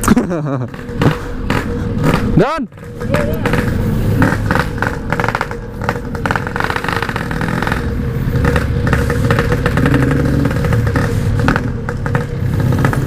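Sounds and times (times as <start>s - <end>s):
motorcycle engine rattly pulsing: 0.0s - 13.0s.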